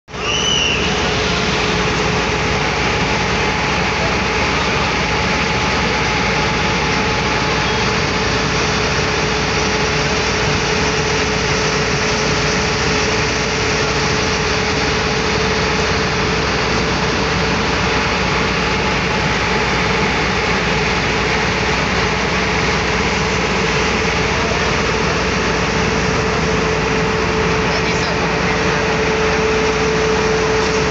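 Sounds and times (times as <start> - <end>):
fire truck engine running: 0.1 - 30.9.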